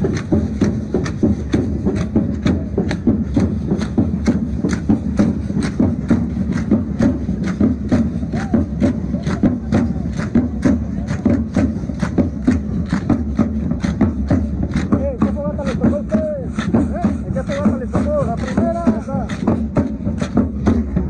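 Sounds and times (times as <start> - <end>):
rhythmic percussion strikes: 0.0 - 21.0.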